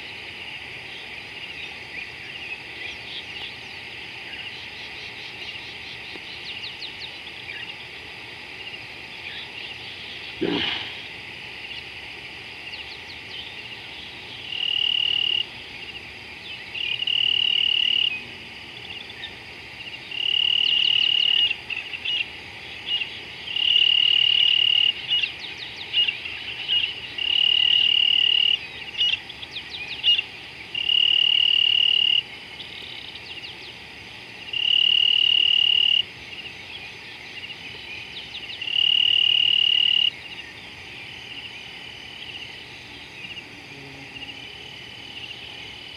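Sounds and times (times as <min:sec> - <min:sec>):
high insect drone: 0:00.0 - 0:45.9
short insect chirps: 0:00.0 - 0:45.9
insect trilling: 0:00.9 - 0:12.0, 0:12.6 - 0:45.9.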